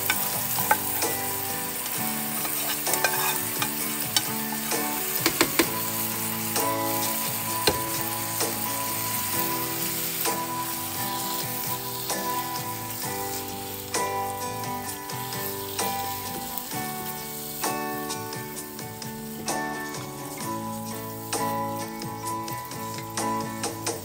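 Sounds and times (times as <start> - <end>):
background music of held chords: 0.0 - 24.0
food sizzling in a pan: 0.0 - 24.0.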